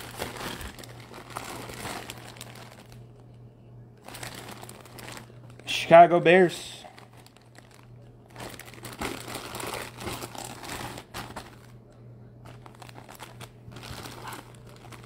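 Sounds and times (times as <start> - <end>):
plastic bag crinkling: 0.0 - 3.3, 4.0 - 15.0.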